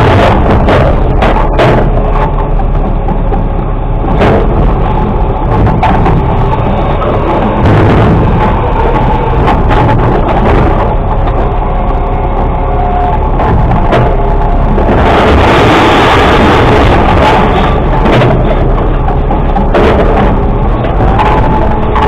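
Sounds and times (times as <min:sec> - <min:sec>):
sharp knocks: 0:00.0 - 0:12.0, 0:12.8 - 0:22.0
garbage truck running: 0:00.0 - 0:22.0.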